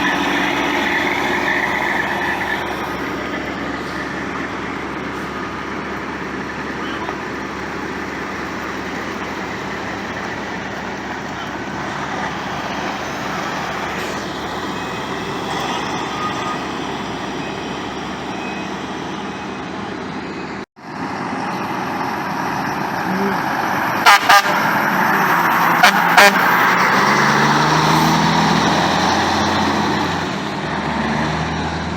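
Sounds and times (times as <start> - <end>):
heavy truck engines droning: 0.0 - 31.9.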